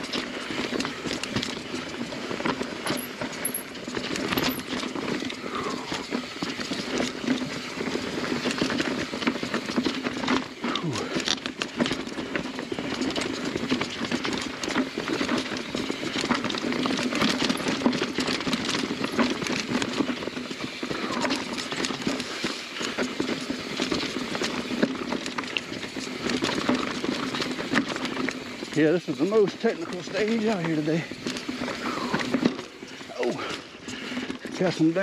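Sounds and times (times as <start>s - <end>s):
mountain bike rattling: 0.0s - 35.0s
tyres crunching over stones: 0.0s - 35.0s.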